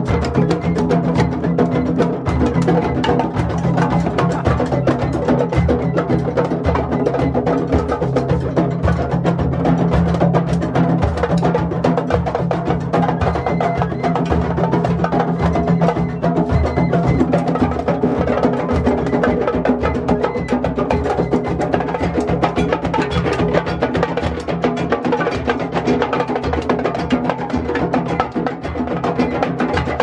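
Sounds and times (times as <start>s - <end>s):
hand drums playing groove: 0.0s - 30.0s.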